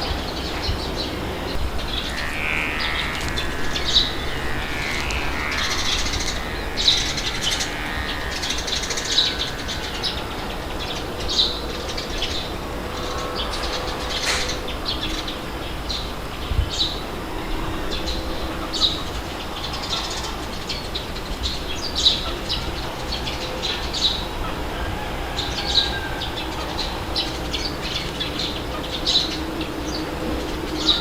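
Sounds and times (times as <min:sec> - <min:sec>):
small birds chirping: 0:00.0 - 0:31.0
wind rumble: 0:00.0 - 0:31.0.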